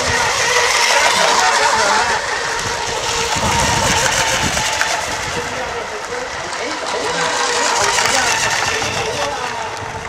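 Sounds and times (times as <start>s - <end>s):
model boat engines whining: 0.0s - 10.0s.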